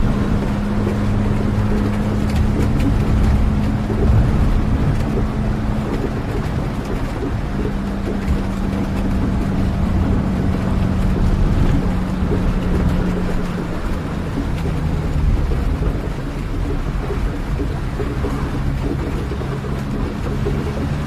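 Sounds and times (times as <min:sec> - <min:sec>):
engine low hum: 0:00.0 - 0:21.0
rain on vehicle: 0:00.0 - 0:21.0.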